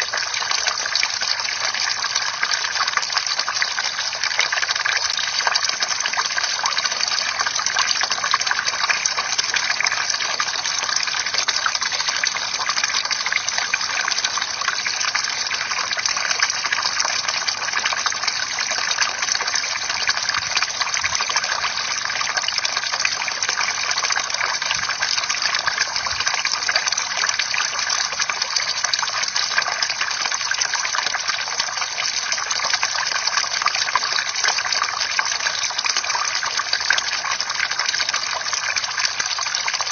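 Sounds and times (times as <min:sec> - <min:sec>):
fountain water pouring and splashing: 0:00.0 - 0:39.9.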